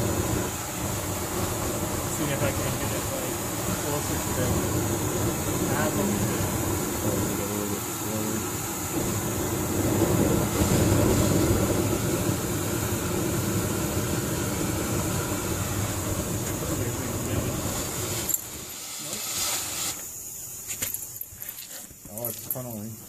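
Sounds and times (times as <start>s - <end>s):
rushing air and flame: 0.0s - 23.0s.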